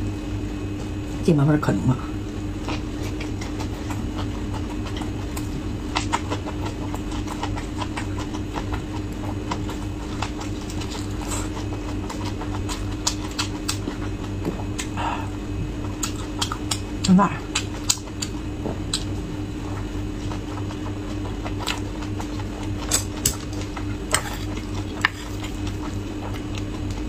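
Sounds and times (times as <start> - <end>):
steady low hum: 0.0 - 27.0
chewing with wet clicks: 2.6 - 27.0.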